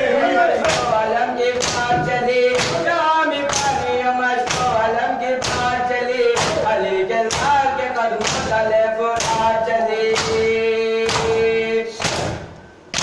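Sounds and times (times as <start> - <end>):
voices chanting a lament: 0.0 - 13.0.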